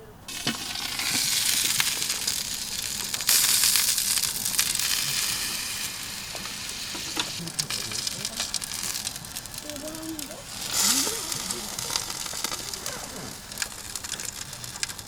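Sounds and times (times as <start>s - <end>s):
meat sizzling on a grill: 0.3s - 15.0s
small crackles: 0.3s - 15.0s.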